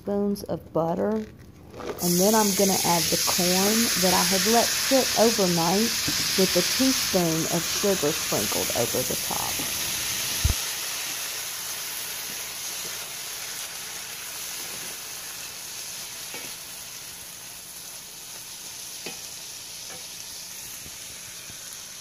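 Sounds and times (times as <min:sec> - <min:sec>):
corn sizzling in butter: 0:01.7 - 0:22.0.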